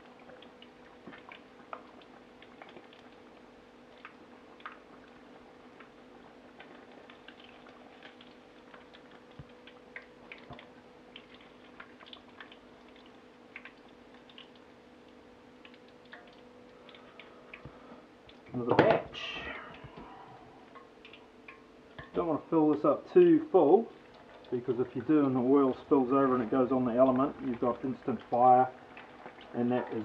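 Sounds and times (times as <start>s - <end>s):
oil crackling and popping: 0.0s - 30.0s
steady low hum: 0.0s - 30.0s.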